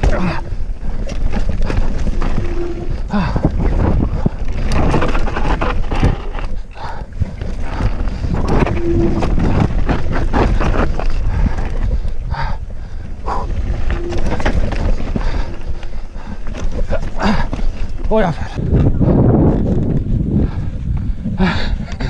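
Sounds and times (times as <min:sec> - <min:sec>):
bike rattling on rough ground: 0:00.0 - 0:22.0
wind buffeting microphone: 0:00.0 - 0:22.0.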